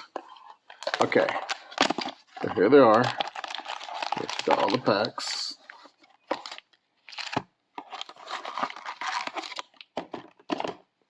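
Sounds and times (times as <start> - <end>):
card pack wrapping crinkling: 0.7 - 10.6.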